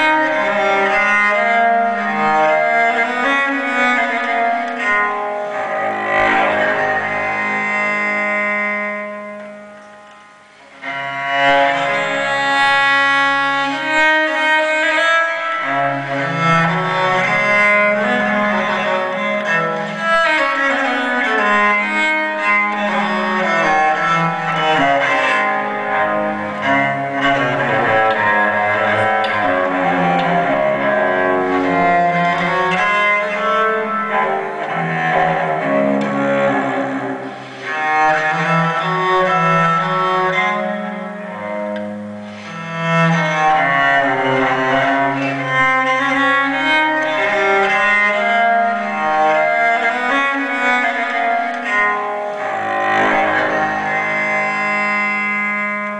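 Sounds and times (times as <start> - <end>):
cello-led string music on loudspeaker: 0.0 - 55.9.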